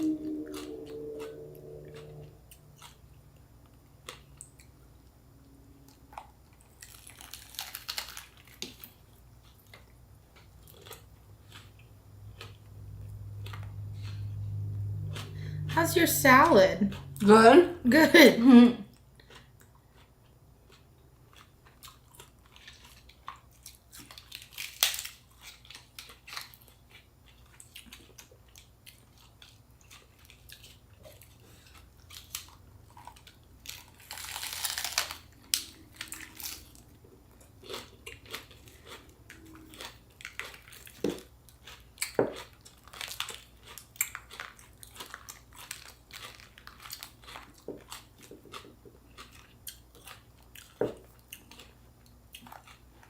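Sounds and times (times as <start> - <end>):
biting and chewing crunches: 5.9 - 15.7, 19.2 - 53.0.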